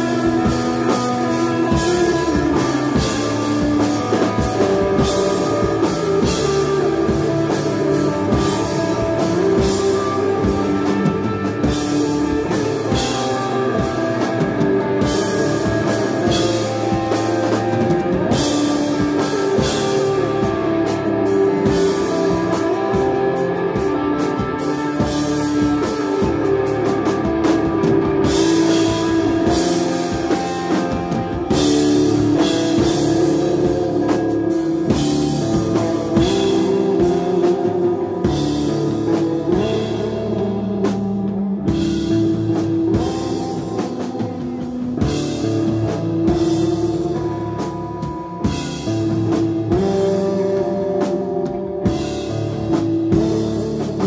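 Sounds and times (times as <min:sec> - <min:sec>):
bass guitar: 0:00.0 - 0:54.0
drum kit with cymbals: 0:00.0 - 0:54.0
electric guitar sustained notes: 0:00.0 - 0:54.0.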